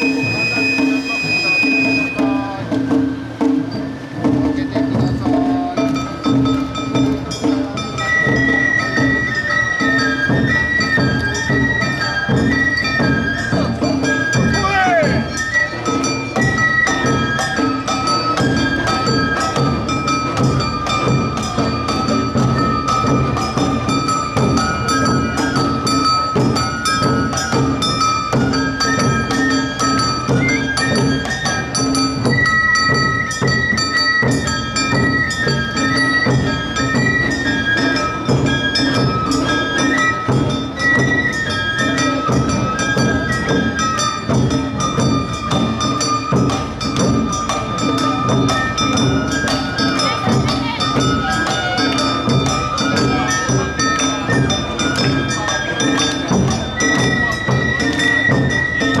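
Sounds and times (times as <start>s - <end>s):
bamboo flute melody: 0.0s - 59.0s
taiko drums beating: 0.0s - 59.0s.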